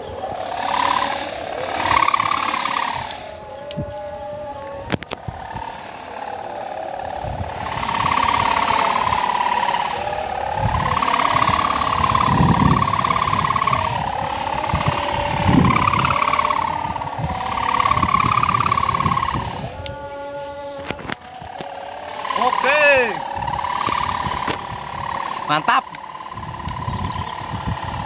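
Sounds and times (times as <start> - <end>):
kite hummer droning: 0.0 - 28.0
wind rumbling on microphone: 0.0 - 28.0.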